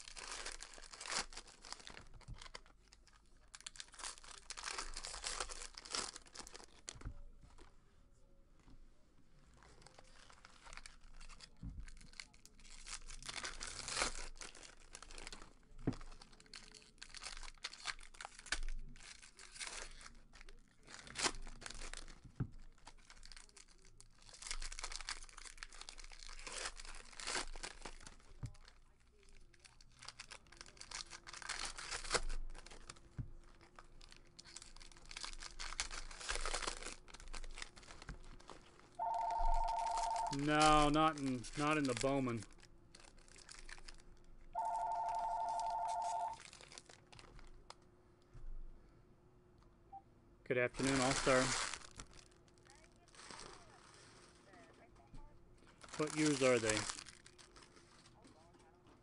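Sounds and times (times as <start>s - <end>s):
foil wrappers tearing and crinkling: 0.0s - 7.0s, 9.6s - 47.8s, 50.8s - 54.7s, 55.7s - 58.7s.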